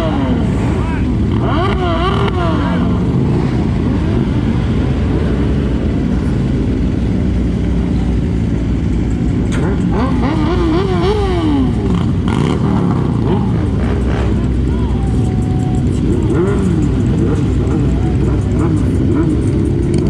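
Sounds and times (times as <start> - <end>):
loud rush of noise: 0.0 - 20.0
motorcycle engine running: 0.0 - 20.0.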